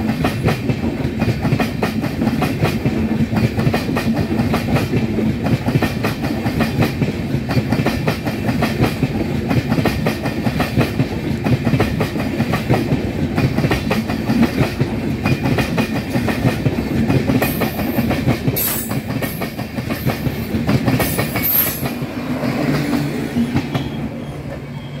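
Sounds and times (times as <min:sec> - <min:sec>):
train wheels clattering over rail joints: 0:00.0 - 0:24.0.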